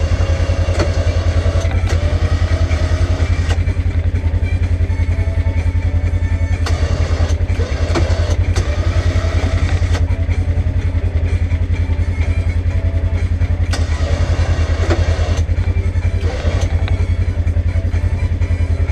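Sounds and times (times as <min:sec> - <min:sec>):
engine running with low pulse: 0:00.0 - 0:18.9.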